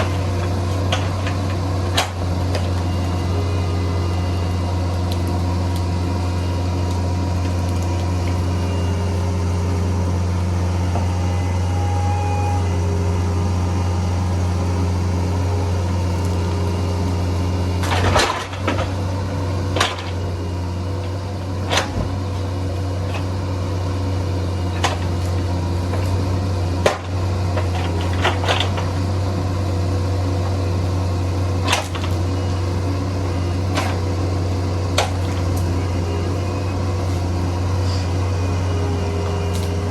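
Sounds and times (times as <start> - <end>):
mini excavator engine droning: 0.0 - 39.9.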